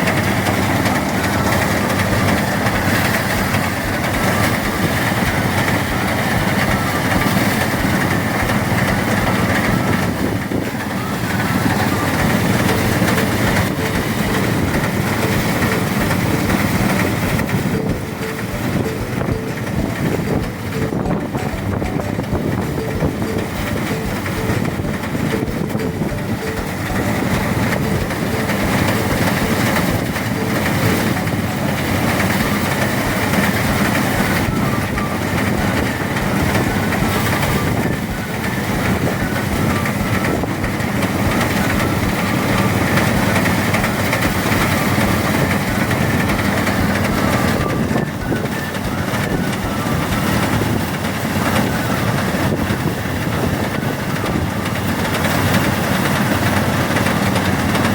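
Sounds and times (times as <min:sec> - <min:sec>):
threshing machine running: 0:00.0 - 0:57.9.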